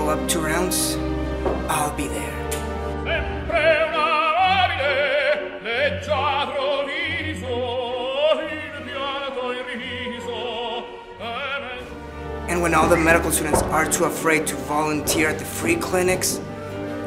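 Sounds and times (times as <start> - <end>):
operatic singing: 0.0 - 17.0
orchestral accompaniment: 0.0 - 17.0.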